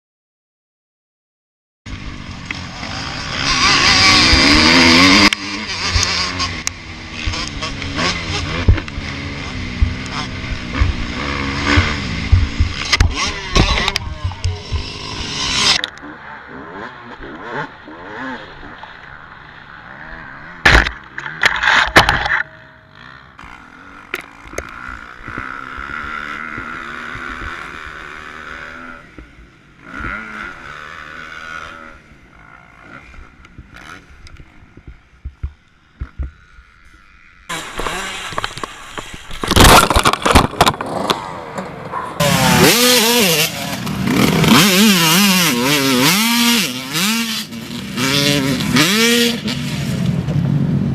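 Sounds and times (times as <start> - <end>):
dirt bike engines revving: 1.9 - 50.9.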